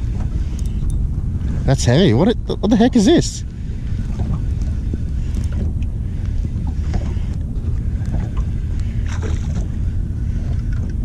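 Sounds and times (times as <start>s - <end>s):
low wind rumble on microphone: 0.0s - 11.0s.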